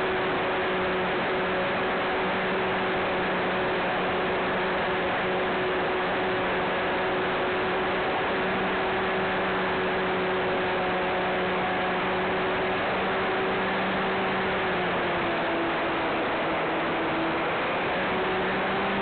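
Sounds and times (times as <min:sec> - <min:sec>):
propeller engine droning: 0:00.0 - 0:19.0.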